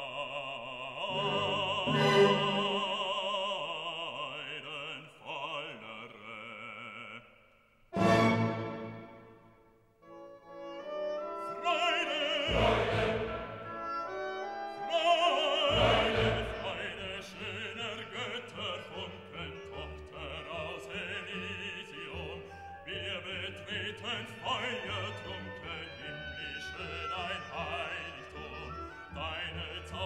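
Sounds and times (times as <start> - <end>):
operatic singing with vibrato: 0.0 - 9.5, 10.8 - 30.0
orchestral music: 1.0 - 3.6, 8.0 - 30.0.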